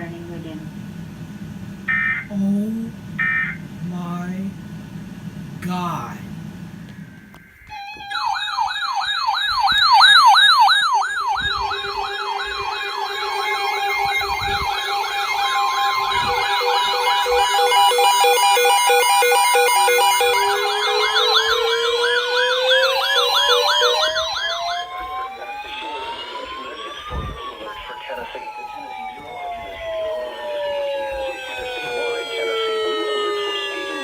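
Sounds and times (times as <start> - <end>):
emergency sirens yelping: 0.0 - 2.4, 3.0 - 34.0
low siren winding up: 3.2 - 3.6, 6.8 - 34.0.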